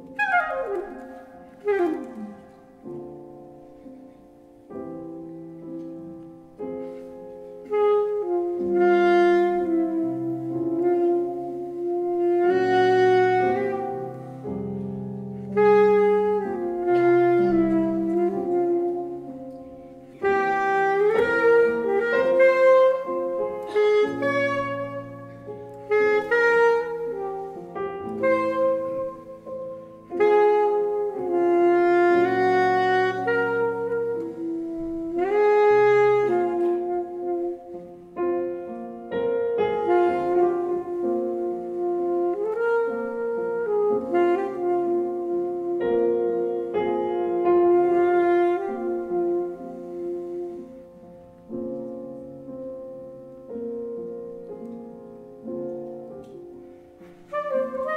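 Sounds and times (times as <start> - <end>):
piano chords: 0.0 - 57.9
saxophone melody: 0.0 - 57.9.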